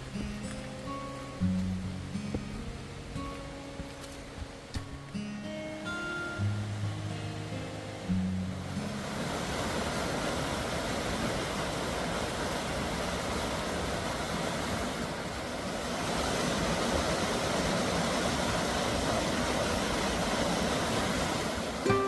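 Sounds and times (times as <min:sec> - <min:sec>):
rushing stream or waterfall: 0:00.0 - 0:22.0.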